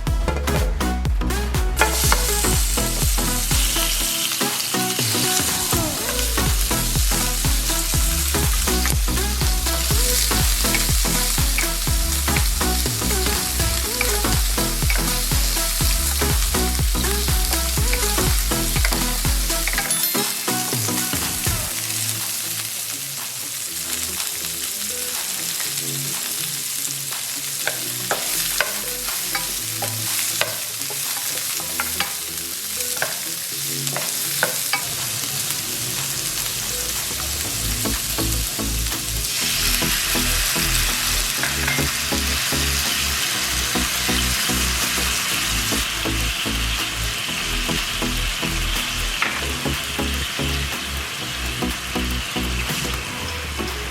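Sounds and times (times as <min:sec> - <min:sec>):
ribs sizzling in oil: 0:01.8 - 0:53.9.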